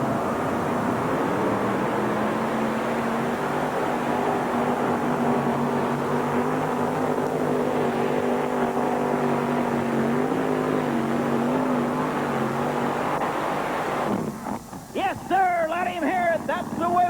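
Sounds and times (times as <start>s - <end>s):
tractor engine at full throttle: 0.0s - 17.0s.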